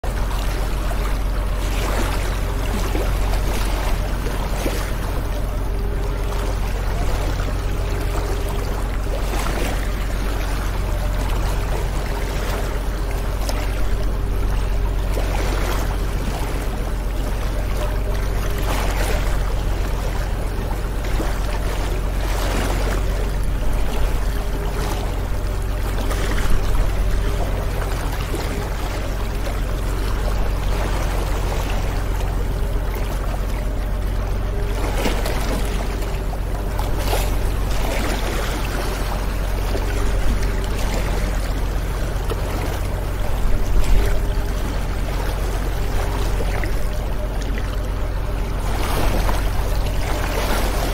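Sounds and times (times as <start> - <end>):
motorboat engine drone: 0.0 - 50.9
water rushing and splashing: 0.0 - 50.9.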